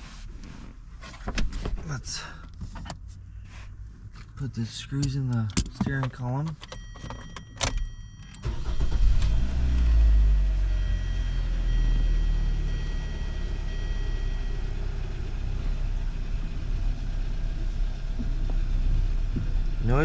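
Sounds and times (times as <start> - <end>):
car engine starting and idling: 0.6 - 20.0.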